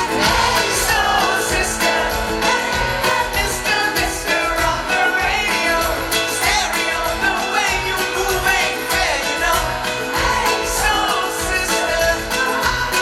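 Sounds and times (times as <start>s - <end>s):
lead vocal singing: 0.0s - 13.0s
live pop-rock band: 0.0s - 13.0s
steady drum beat: 0.0s - 13.0s.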